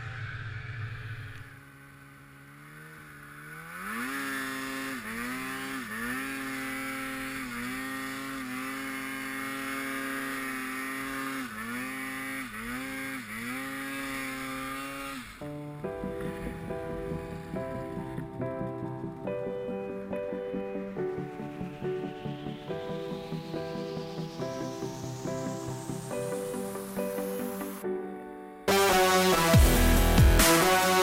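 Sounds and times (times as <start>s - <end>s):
snowmobile engine revving: 0.0s - 27.9s, 28.7s - 31.0s.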